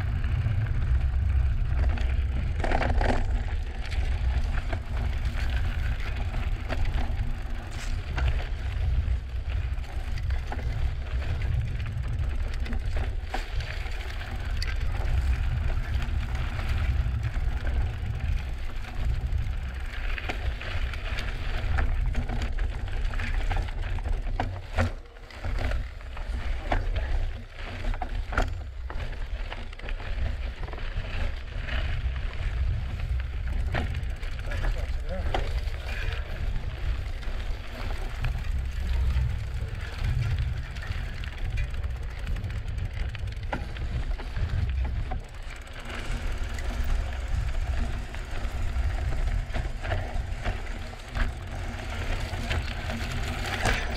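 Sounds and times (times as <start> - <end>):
bike rattling over bumps: 0.0 - 53.9
wind rumble on microphone: 0.0 - 53.9.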